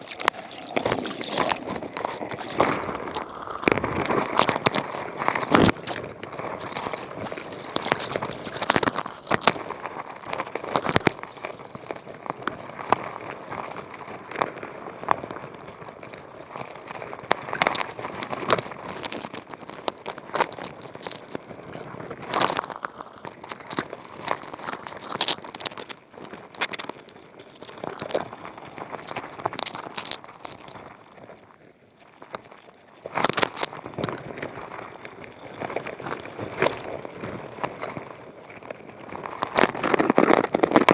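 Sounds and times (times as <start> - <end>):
underwater clicking and crackling: 0.0 - 40.9.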